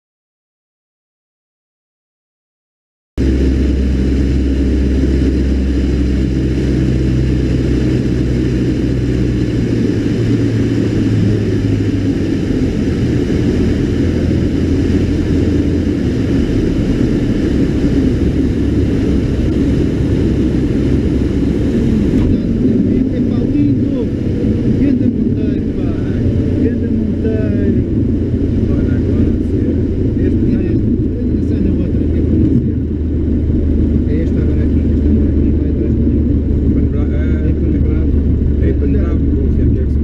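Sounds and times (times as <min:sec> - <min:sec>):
light aircraft engine and propeller drone: 0:03.2 - 0:40.0.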